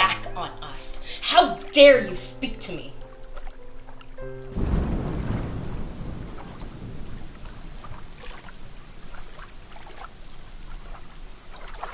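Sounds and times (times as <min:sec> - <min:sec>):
water lapping against shore: 0:00.4 - 0:11.9
small water splashes: 0:01.4 - 0:11.9.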